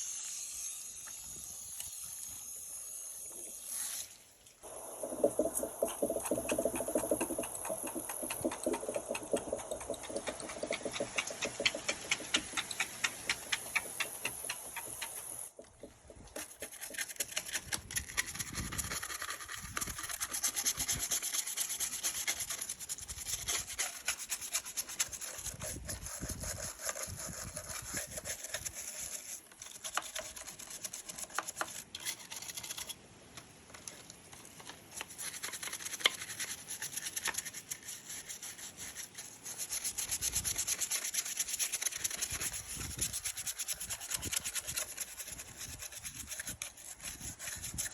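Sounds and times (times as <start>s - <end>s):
rapid scrubbing strokes: 3.6s - 32.6s, 34.9s - 47.9s.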